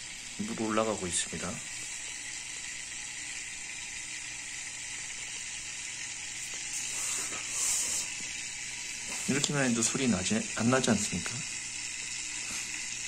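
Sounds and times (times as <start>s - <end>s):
water hissing through filter: 0.0s - 13.0s.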